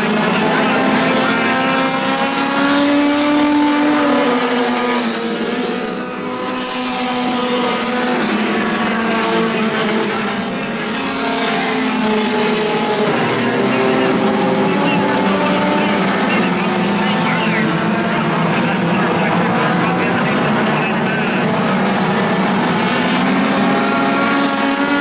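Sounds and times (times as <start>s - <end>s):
race car engines passing: 0.0s - 25.0s.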